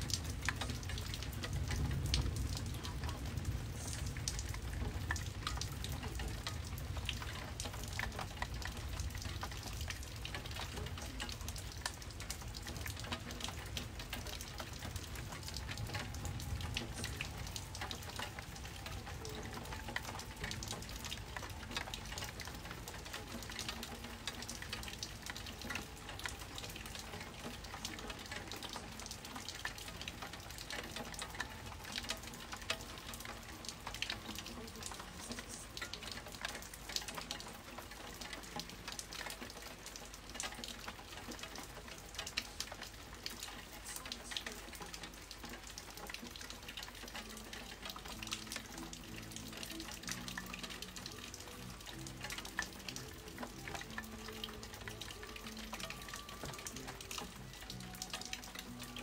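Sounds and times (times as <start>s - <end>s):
rain on a hard surface: 0.0s - 59.0s.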